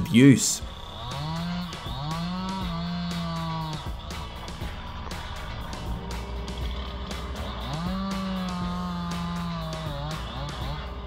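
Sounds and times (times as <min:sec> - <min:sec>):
low engine rumble: 0:00.0 - 0:11.0
music with a steady beat: 0:00.7 - 0:11.0.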